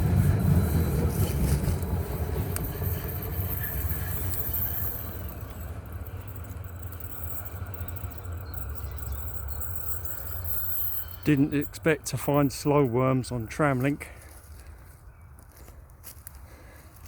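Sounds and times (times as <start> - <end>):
tram passing rumble: 0.0 - 15.0.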